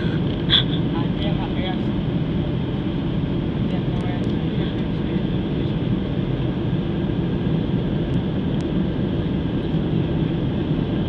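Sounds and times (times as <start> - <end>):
airliner cabin engine noise: 0.0 - 11.0.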